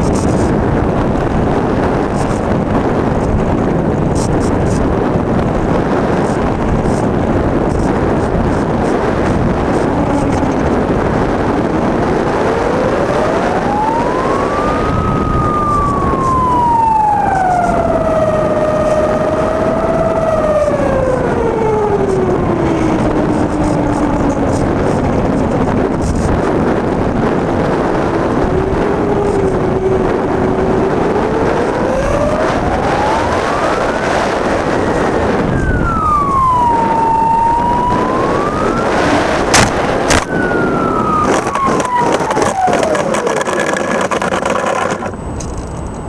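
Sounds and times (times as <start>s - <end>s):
rushing wind: 0.0s - 46.0s
electric motor noise: 6.1s - 45.7s
gliding pitched tone: 7.8s - 45.4s.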